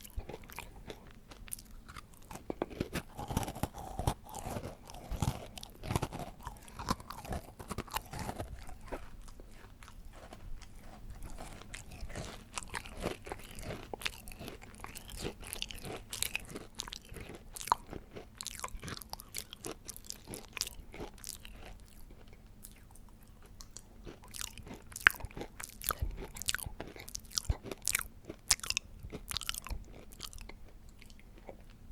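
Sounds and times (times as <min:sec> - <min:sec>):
person chewing cake: 0:00.0 - 0:31.9.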